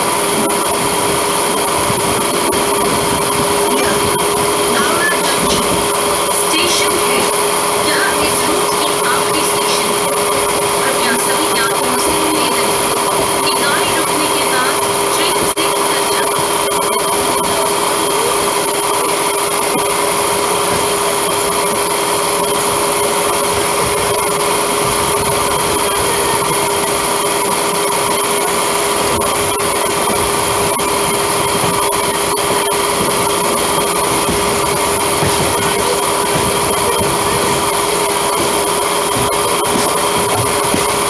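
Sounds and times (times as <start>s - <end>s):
train motor whine: 0.0s - 41.0s
train wheels rumbling on rail: 0.0s - 41.0s.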